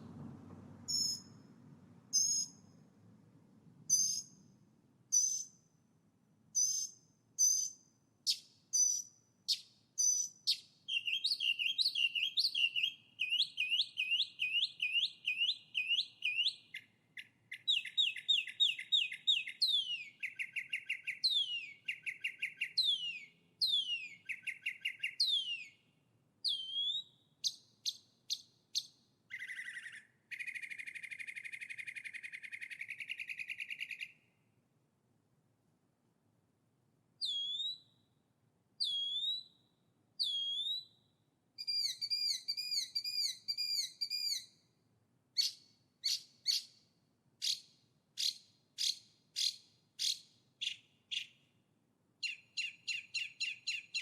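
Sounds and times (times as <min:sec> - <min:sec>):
songbird singing: 0:00.8 - 0:02.8, 0:03.9 - 0:05.8, 0:06.6 - 0:34.4, 0:37.2 - 0:38.2, 0:38.8 - 0:44.7, 0:45.4 - 0:46.8, 0:47.4 - 0:51.5, 0:52.2 - 0:54.0.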